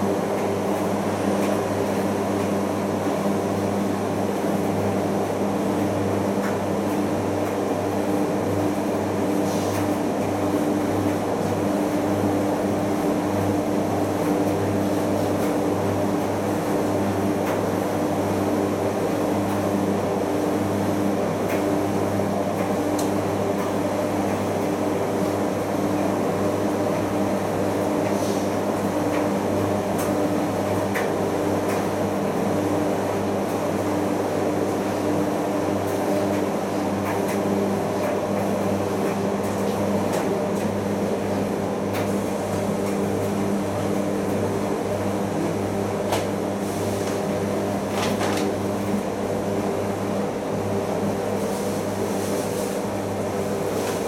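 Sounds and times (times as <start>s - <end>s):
steady motor hum: 0.0s - 54.0s.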